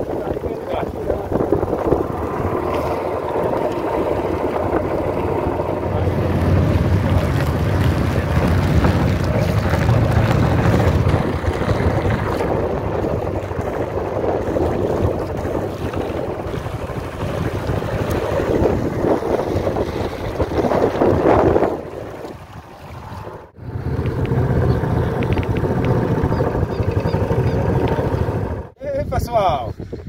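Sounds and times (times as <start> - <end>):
outboard motor running: 0.0 - 28.8
wind buffeting microphone: 0.0 - 30.0.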